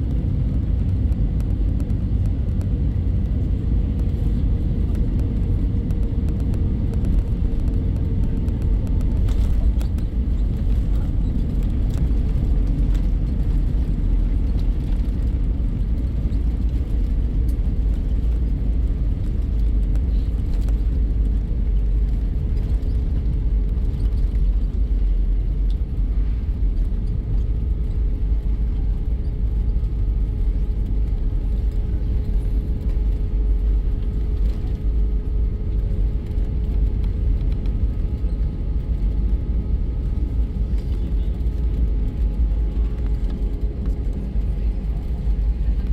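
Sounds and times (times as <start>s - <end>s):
engine and airflow rumble: 0.0s - 45.9s.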